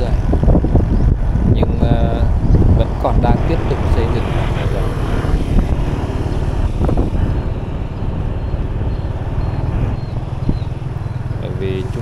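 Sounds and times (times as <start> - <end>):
road vehicle rumble: 0.0 - 12.0
wind buffeting microphone: 0.0 - 12.0.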